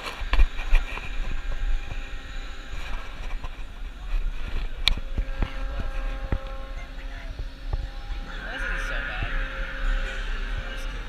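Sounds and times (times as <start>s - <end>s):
ride machinery rumble: 0.0s - 11.0s.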